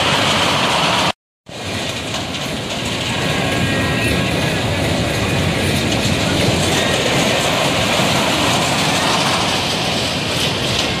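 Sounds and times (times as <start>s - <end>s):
ride cars rumbling on rails: 0.0s - 11.0s.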